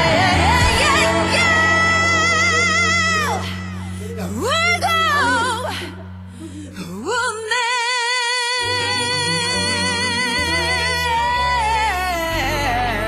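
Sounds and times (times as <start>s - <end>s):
woman singing pop ballad: 0.0s - 6.0s, 6.7s - 13.0s
backing track: 0.0s - 6.9s, 8.6s - 13.0s.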